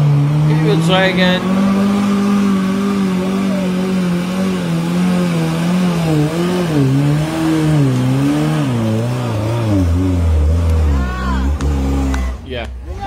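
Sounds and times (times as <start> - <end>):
truck engine running loudly: 0.0 - 13.0.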